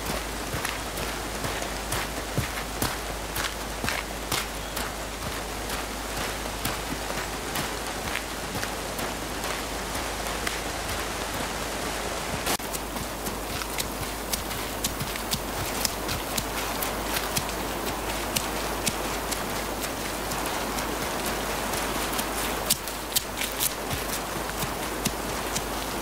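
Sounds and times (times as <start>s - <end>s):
heavy drops ticking: 0.0s - 26.0s
steady rain in woodland: 0.0s - 26.0s.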